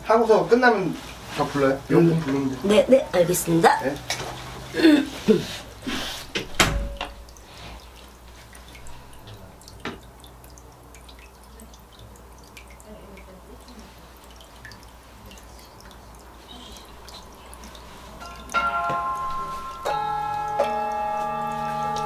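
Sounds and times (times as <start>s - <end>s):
water dripping in fountain: 0.0s - 4.8s, 5.8s - 22.0s.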